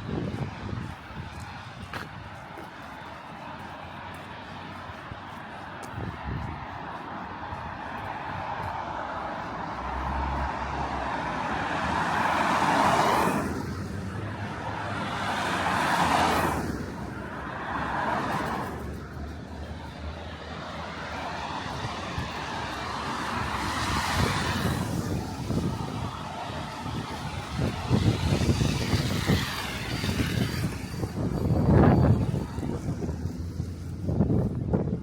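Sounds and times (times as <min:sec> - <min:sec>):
cars passing by: 0:00.0 - 0:35.0
wind rumble on microphone: 0:00.0 - 0:35.0.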